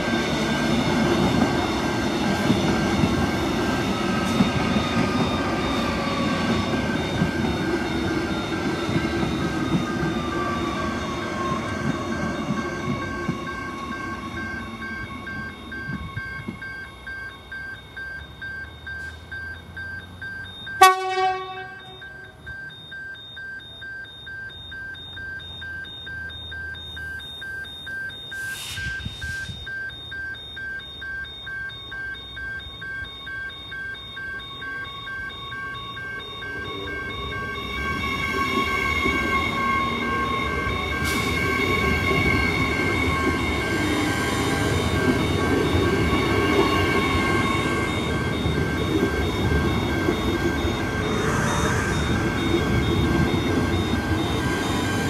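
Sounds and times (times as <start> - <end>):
electric train rumble and whine: 0.0 - 55.0
level crossing bells ringing: 0.0 - 55.0.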